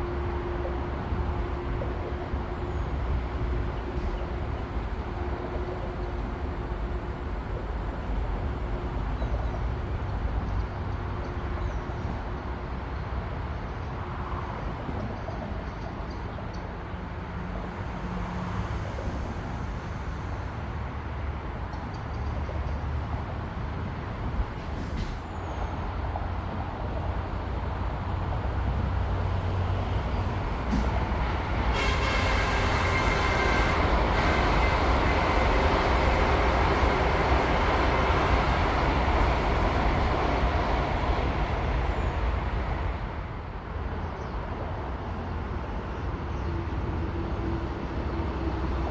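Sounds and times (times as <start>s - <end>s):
high-speed train passing: 0.0s - 48.9s.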